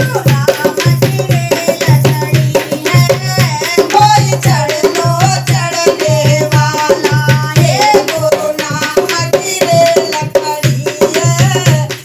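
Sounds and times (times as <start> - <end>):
hand drum rhythm: 0.0 - 12.0
woman singing devotional song: 0.0 - 12.0.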